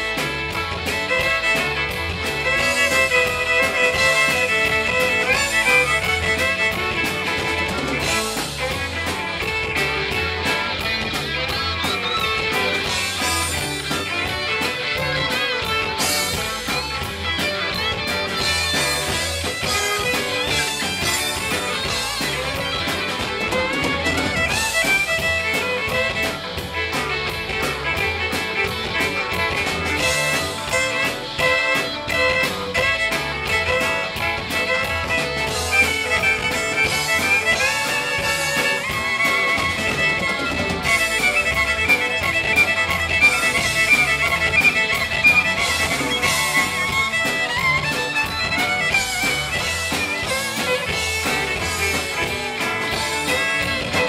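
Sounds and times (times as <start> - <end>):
country rock band playing: 0.0 - 54.0.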